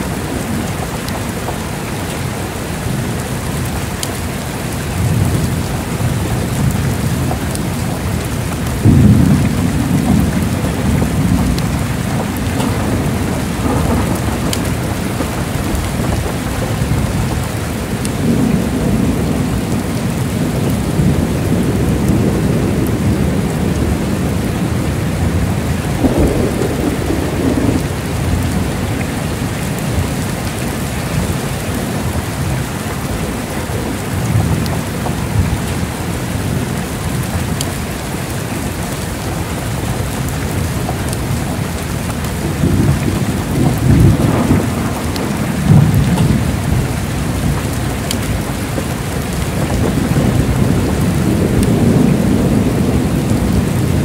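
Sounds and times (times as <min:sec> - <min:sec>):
heavy rain falling: 0:00.0 - 0:54.0
thunder rumbling and cracking: 0:00.0 - 0:54.0.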